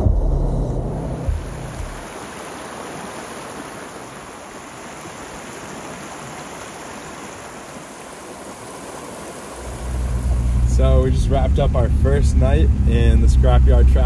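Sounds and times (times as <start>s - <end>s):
creek rushing over rocks: 1.0s - 14.0s.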